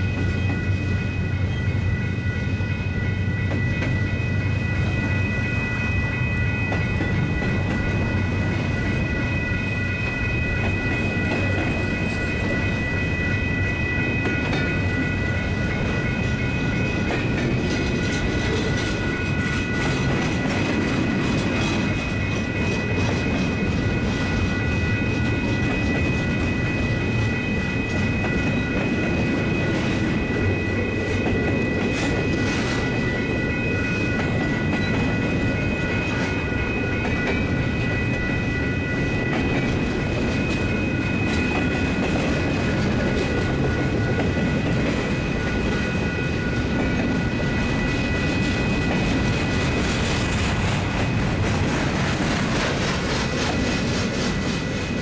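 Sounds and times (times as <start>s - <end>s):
freight train wheels rumbling: 0.0s - 55.0s
steady high whine: 0.0s - 55.0s.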